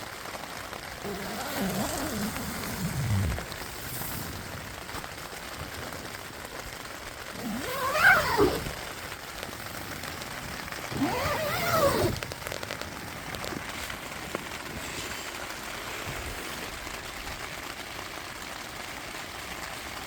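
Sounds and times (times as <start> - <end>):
rain falling in forest: 0.0 - 20.0.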